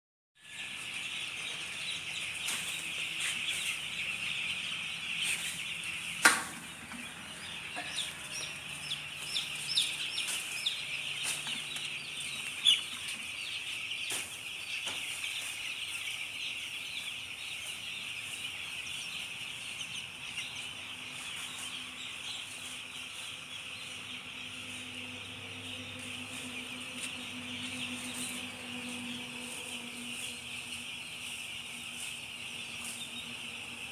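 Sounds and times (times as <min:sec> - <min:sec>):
chickens cheeping and clucking: 0:00.4 - 0:33.9.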